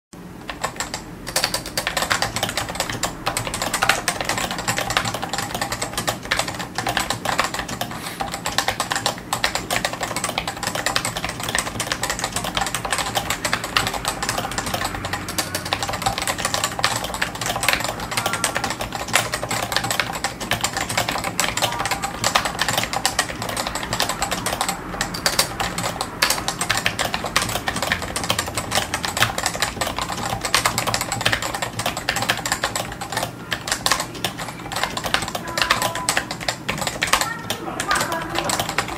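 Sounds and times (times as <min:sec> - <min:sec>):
fast typing on keyboard: 0:00.3 - 0:38.9.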